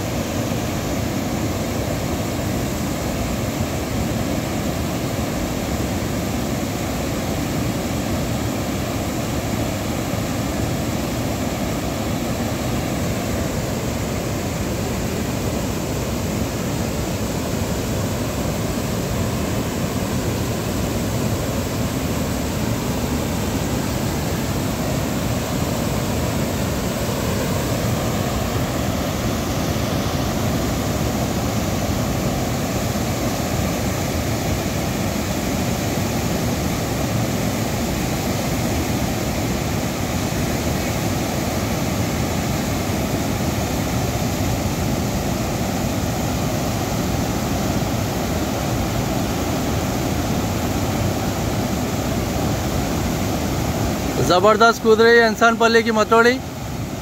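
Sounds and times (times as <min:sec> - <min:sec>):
rushing falling water: 0:00.0 - 0:57.0.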